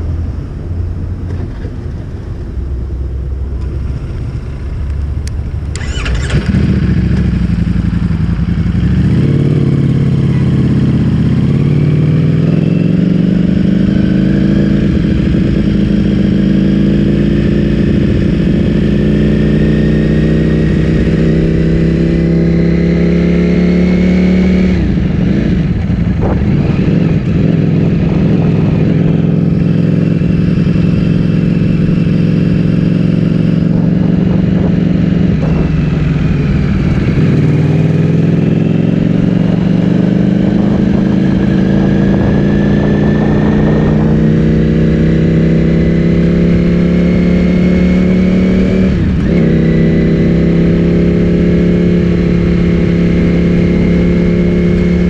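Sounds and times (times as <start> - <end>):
motorcycle engine revving: 3.4 - 55.0.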